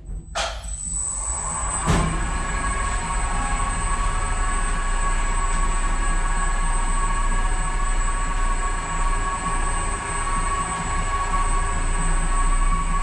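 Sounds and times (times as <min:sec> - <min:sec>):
lift mechanical hum: 0:00.0 - 0:13.0
high-pitched drive whine: 0:00.4 - 0:13.0.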